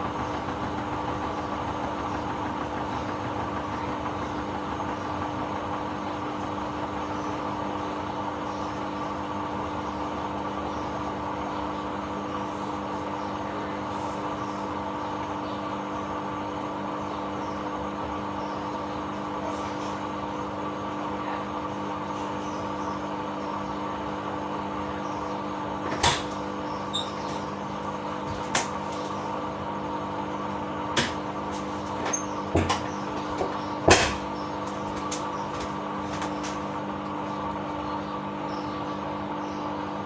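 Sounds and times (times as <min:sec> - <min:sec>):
washing machine motor hum: 0:00.0 - 0:40.0.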